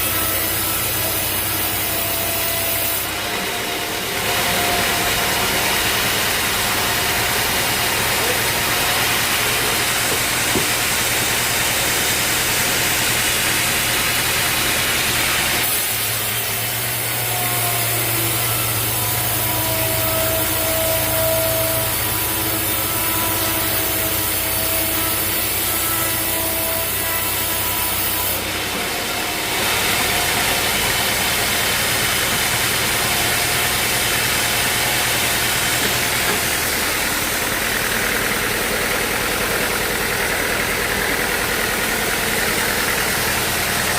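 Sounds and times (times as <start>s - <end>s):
bandsaw sawing through log: 0.0s - 43.9s
deep hum with held tones: 0.0s - 43.9s.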